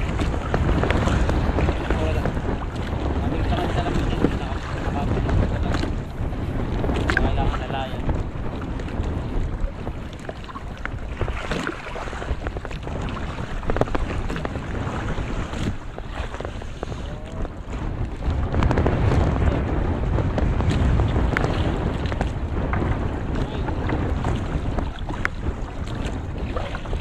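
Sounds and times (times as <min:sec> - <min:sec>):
sea water around boat: 0:00.0 - 0:27.0
water splashes: 0:00.0 - 0:27.0
wind noise on microphone: 0:00.0 - 0:27.0.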